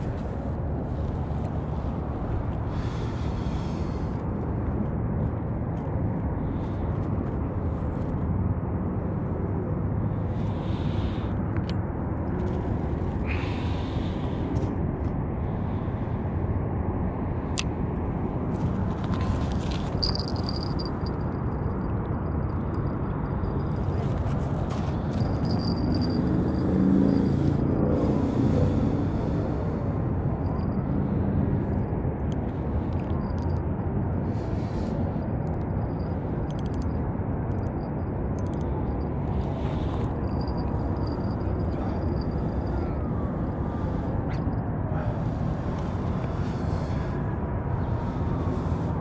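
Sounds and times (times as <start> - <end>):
low outdoor rumble: 0.0 - 49.0.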